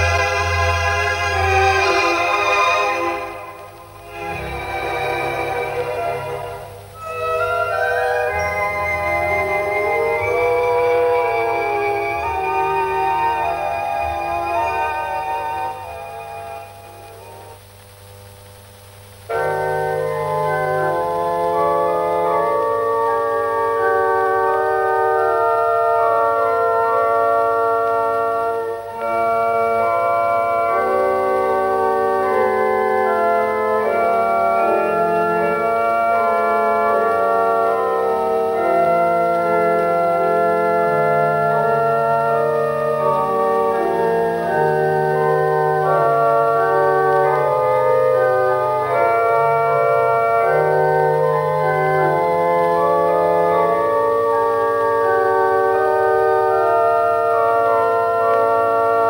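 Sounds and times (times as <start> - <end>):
pipe organ playing chords: 0.0 - 18.4, 19.0 - 59.0.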